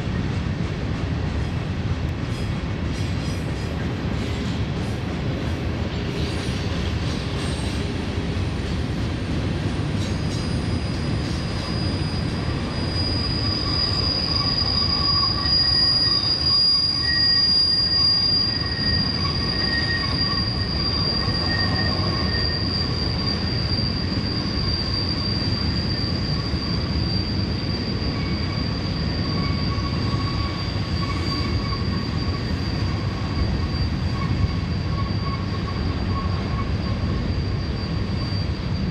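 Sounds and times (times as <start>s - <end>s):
train rolling past rumble: 0.0s - 38.9s
high wheel squeal: 6.1s - 38.9s.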